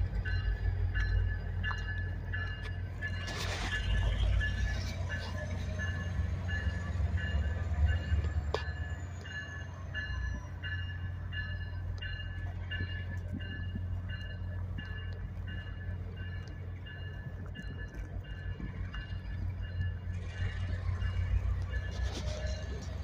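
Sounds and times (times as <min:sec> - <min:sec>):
diesel locomotive engine rumbling: 0:00.0 - 0:23.0.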